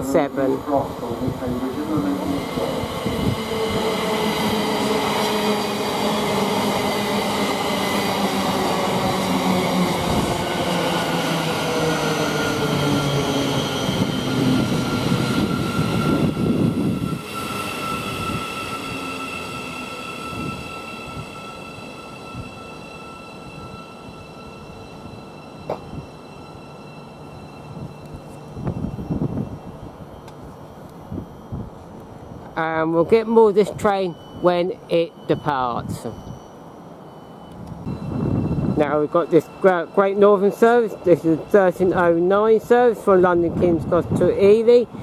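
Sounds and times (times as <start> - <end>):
electric train traction whine: 0.0 - 45.0
standing train high-pitched hum: 0.0 - 45.0.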